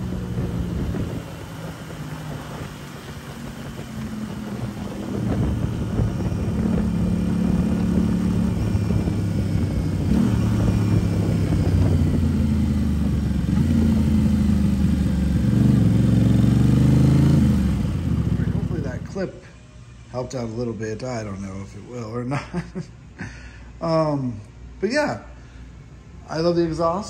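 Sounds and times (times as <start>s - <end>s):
motorcycle engine cruising: 0.0s - 21.7s.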